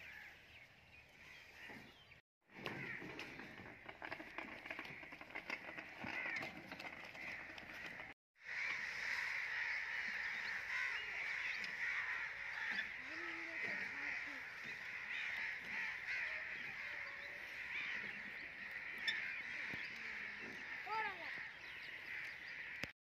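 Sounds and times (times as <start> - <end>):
crows cawing: 2.6 - 22.9.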